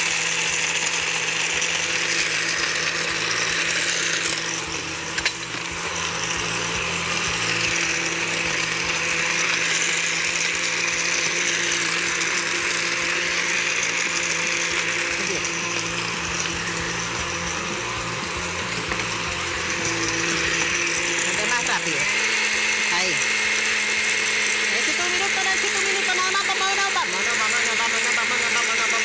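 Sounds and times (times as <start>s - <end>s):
blender grinding: 0.0s - 29.0s.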